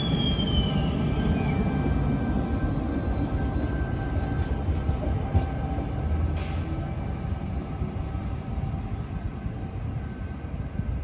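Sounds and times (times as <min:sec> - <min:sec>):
train rumbling pulling away: 0:00.0 - 0:11.0.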